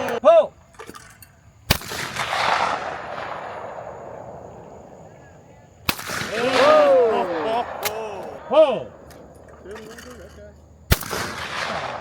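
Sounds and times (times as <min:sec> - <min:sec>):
shotgun shots: 0:01.7 - 0:10.3, 0:10.9 - 0:12.0.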